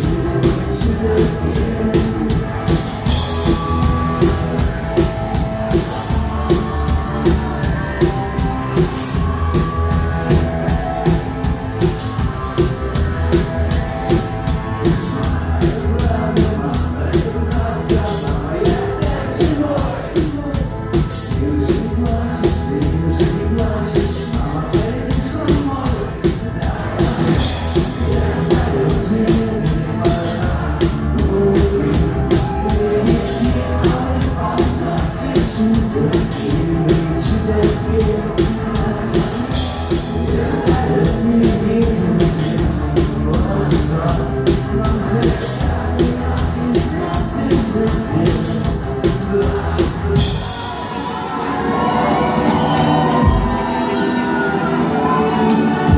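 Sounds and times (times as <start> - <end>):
drum kit beat: 0.0 - 50.8
bass guitar: 0.0 - 55.9
electric guitar: 0.0 - 55.9.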